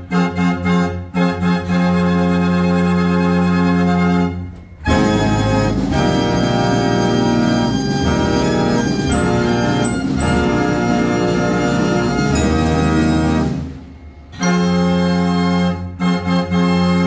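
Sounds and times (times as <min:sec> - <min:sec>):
fair organ playing melody: 0:00.0 - 0:17.0.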